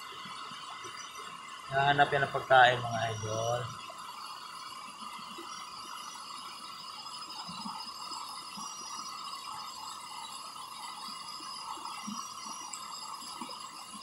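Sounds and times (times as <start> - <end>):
night insect chorus: 0.0 - 14.0.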